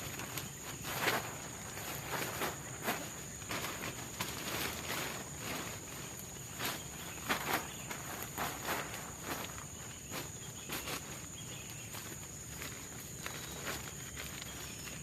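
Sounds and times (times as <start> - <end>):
footsteps crunching on forest floor: 0.0 - 15.0
insect drone: 0.0 - 15.0.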